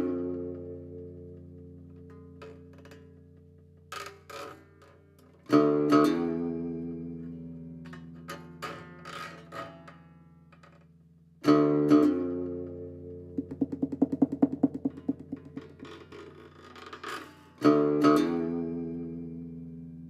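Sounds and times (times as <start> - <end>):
plucked guitar notes: 0.0 - 20.0.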